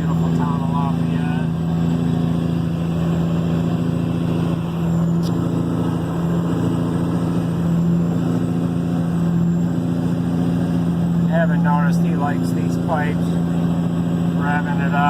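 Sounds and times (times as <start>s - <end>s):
diesel truck exhaust drone: 0.0s - 15.0s.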